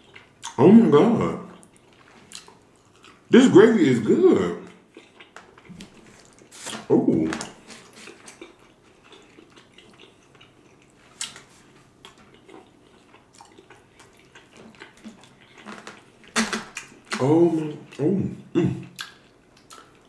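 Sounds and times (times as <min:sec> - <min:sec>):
chewing and wet mouth sounds: 0:00.0 - 0:00.6, 0:01.4 - 0:03.3, 0:04.6 - 0:20.0.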